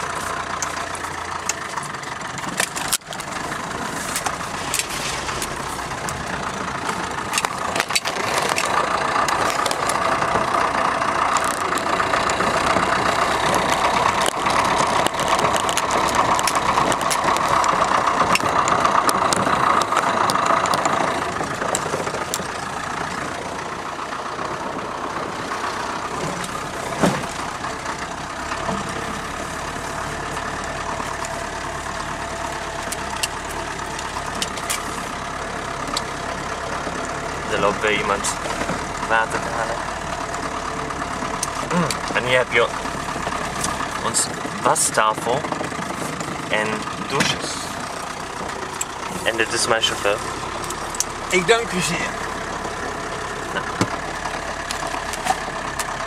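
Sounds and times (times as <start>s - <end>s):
car body rattling: 0.0s - 56.0s
car engine running: 0.0s - 56.0s.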